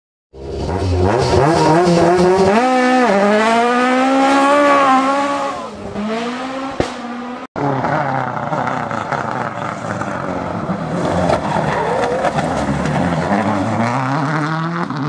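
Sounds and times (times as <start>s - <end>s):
racing car engine accelerating: 0.4s - 15.0s.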